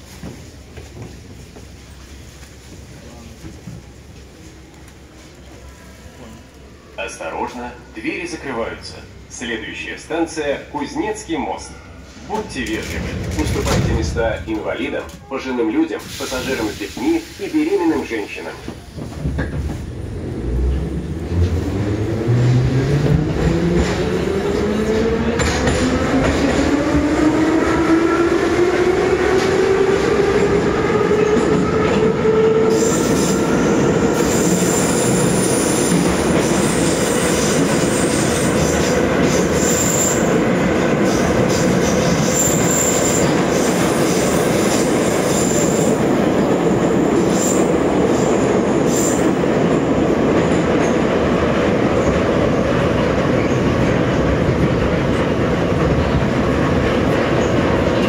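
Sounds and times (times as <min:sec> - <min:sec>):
train running in tunnel: 0:00.0 - 0:58.0.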